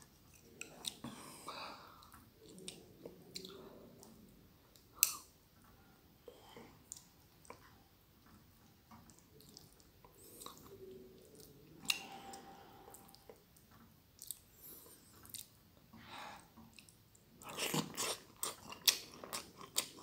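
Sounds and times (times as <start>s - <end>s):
chewing and wet mouth sounds: 0.0s - 1.3s, 2.0s - 15.6s, 16.4s - 20.0s.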